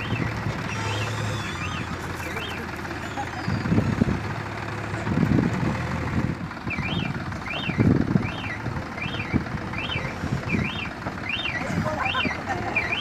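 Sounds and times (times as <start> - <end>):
tractor engine revving: 0.0 - 13.0.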